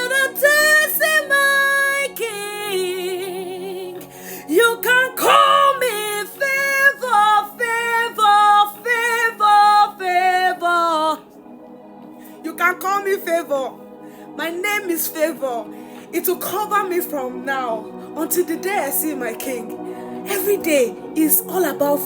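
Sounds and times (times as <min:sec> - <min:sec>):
woman singing gospel: 0:00.0 - 0:11.3, 0:12.3 - 0:22.0
soft sustained musical backing: 0:00.0 - 0:22.0.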